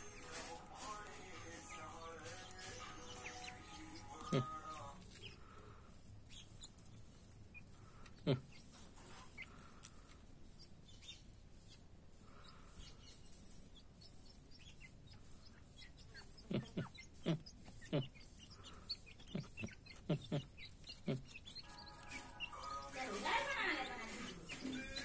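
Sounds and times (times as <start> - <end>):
birds pecking on stone floor: 0.0 - 25.0
young birds clucking and chirping: 0.0 - 25.0.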